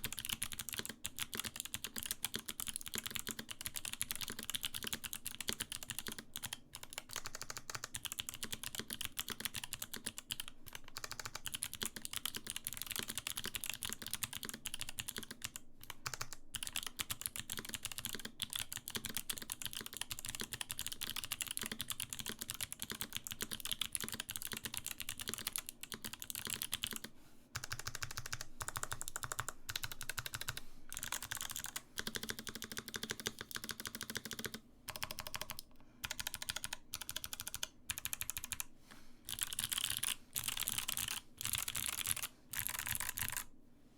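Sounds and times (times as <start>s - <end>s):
mechanical keyboard typing: 0.0s - 38.7s, 39.3s - 43.5s.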